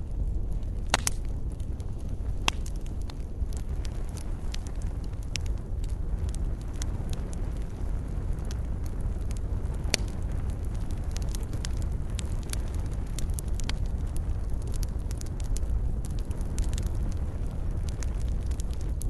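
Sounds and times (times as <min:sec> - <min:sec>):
burning wood crackling: 0:00.0 - 0:19.0
campfire flames rumbling: 0:00.0 - 0:19.0.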